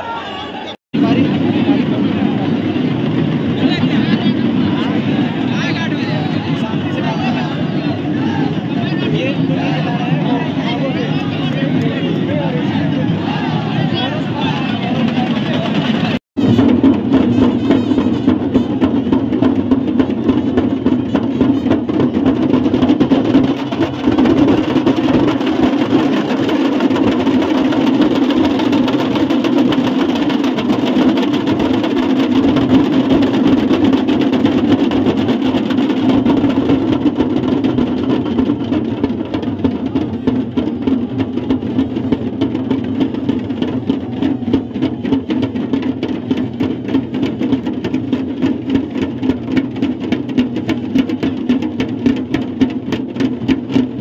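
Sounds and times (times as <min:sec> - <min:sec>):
crowd din: 0:00.0 - 0:54.0
drums beating: 0:01.0 - 0:54.0.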